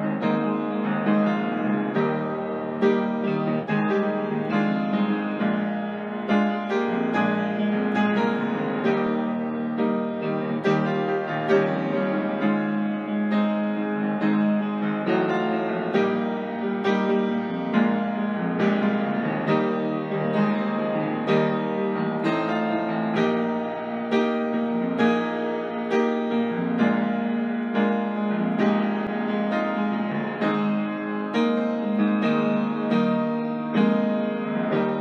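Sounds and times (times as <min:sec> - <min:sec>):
slow gentle piano: 0:00.0 - 0:35.0.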